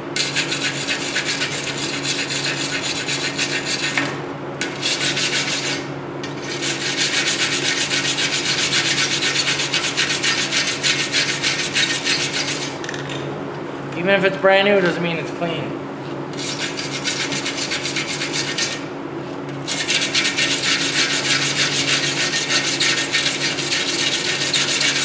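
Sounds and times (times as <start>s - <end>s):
metal being scrubbed by hand: 0.2s - 4.0s, 4.6s - 13.0s, 16.3s - 18.9s, 19.6s - 25.0s.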